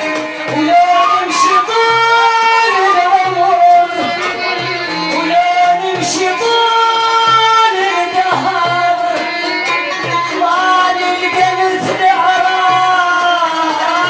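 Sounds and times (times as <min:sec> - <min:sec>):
folk ensemble playing: 0:00.0 - 0:14.0
woman singing: 0:00.0 - 0:14.0.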